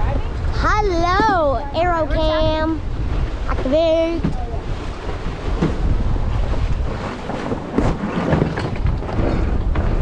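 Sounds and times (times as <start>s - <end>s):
water washing against hull: 0.0s - 10.0s
wind buffeting microphone: 0.0s - 10.0s.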